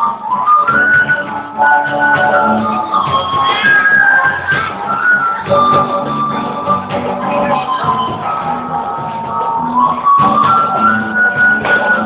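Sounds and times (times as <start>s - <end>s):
band playing instrumental music: 0.0s - 12.0s.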